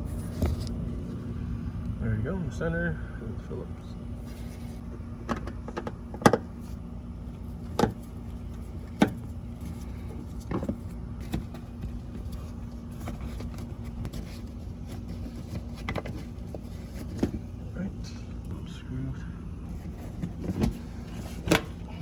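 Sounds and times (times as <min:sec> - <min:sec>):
low hum and rumble: 0:00.0 - 0:22.0.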